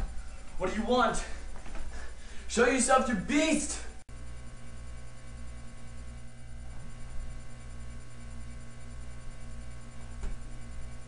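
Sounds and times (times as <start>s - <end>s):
low electrical hum with hiss: 0.0s - 11.0s.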